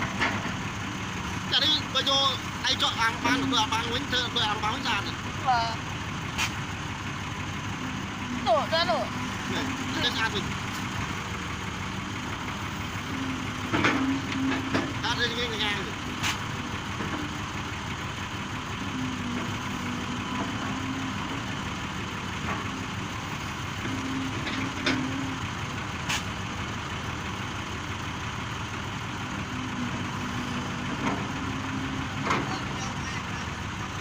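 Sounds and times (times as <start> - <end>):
diesel excavator engine running: 0.0 - 34.0.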